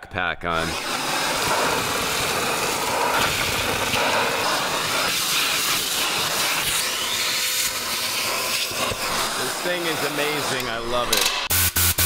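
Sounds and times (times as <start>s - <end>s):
vacuum cleaner hissing rush: 0.5s - 11.3s.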